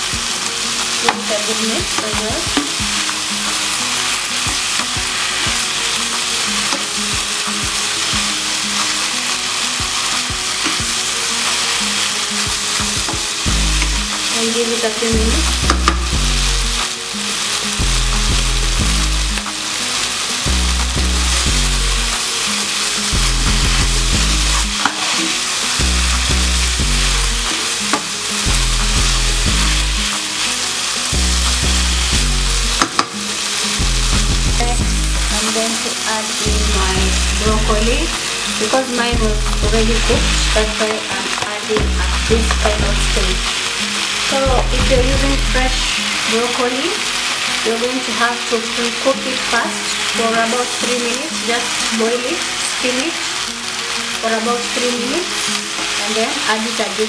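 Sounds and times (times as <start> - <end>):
stir-fry sizzling in a pan: 0.0 - 57.0
stirring strokes in a pan: 0.0 - 57.0.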